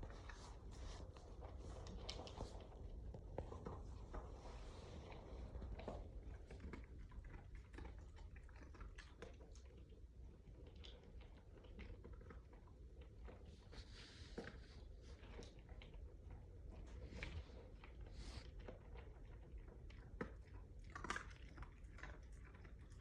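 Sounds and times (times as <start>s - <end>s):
dog chewing and crunching: 0.0s - 23.0s.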